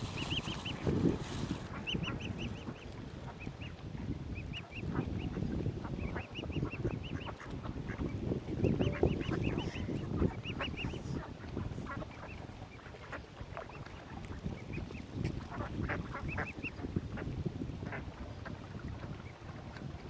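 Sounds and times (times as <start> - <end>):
waterfowl and gulls squawking: 0.0 - 0.8, 1.7 - 3.8, 4.4 - 18.1.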